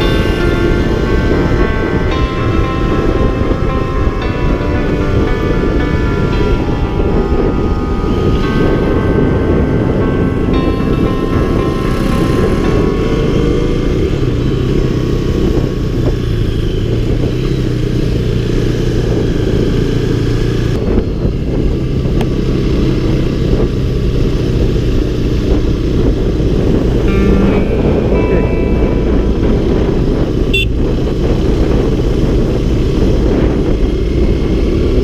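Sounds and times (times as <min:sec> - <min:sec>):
motorcycle engine running: 0:00.0 - 0:35.0
wind rumble on microphone: 0:00.0 - 0:35.0.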